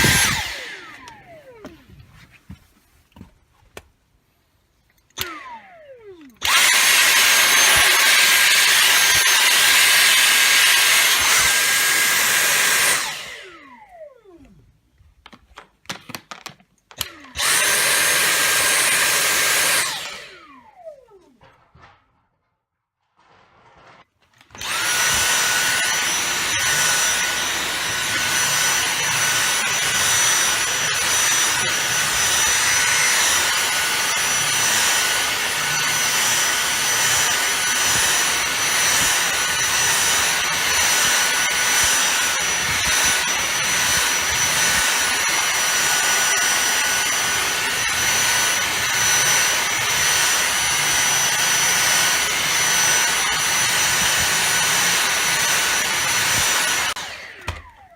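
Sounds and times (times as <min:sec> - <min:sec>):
vacuum cleaner motor whine: 0:00.0 - 0:02.0, 0:05.2 - 0:14.6, 0:17.0 - 0:21.4, 0:24.5 - 0:57.9.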